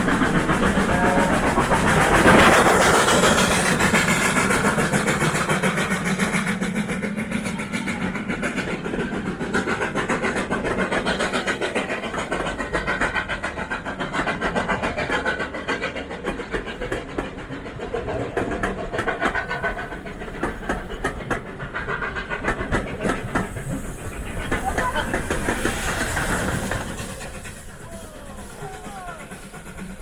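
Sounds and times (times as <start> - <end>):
steam train running past: 0.0 - 30.0
wheels clattering over rails: 0.0 - 30.0.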